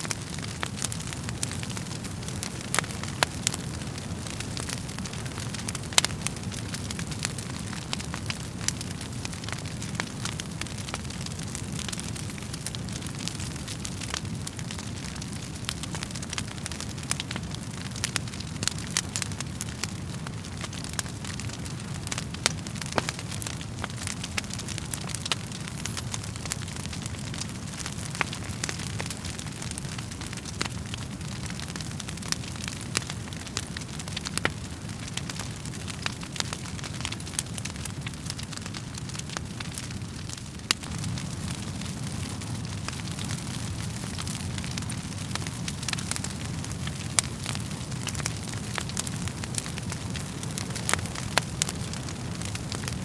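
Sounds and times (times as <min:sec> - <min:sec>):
burning logs crackling: 0:00.0 - 0:53.0
low rumble of flames: 0:00.0 - 0:53.0.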